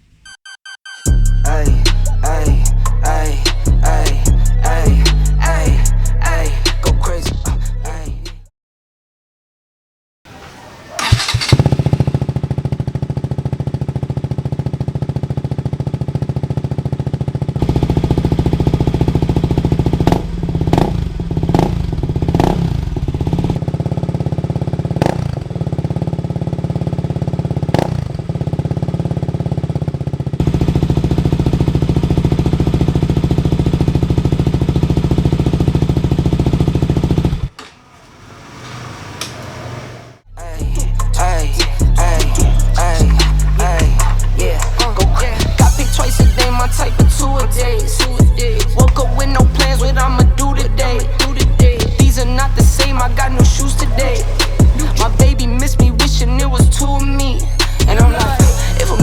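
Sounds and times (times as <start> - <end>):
motorcycle engine idling and revving: 1.1 - 8.5, 10.3 - 59.0.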